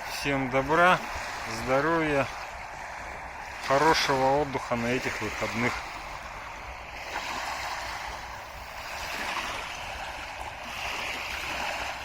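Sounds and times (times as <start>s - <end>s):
small waves lapping on shore: 0.0s - 12.0s.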